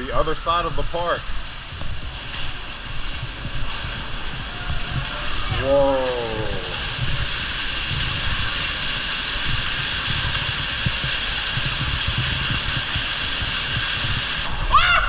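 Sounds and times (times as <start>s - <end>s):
low rumbles: 0.0s - 14.8s
water jets spraying and splashing: 0.0s - 14.8s.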